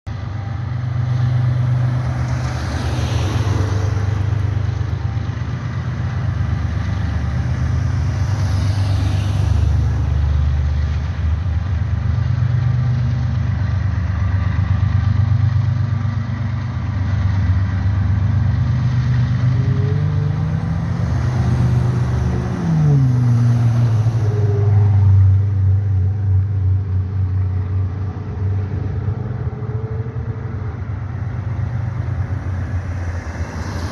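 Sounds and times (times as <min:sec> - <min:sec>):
diesel train engines droning: 0:00.1 - 0:33.9.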